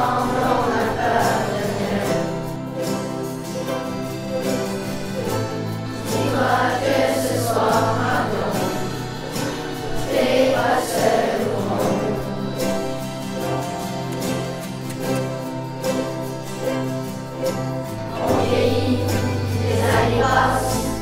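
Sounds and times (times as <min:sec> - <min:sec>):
children singing together: 0:00.0 - 0:21.0
ukulele ensemble strumming chords: 0:00.0 - 0:21.0.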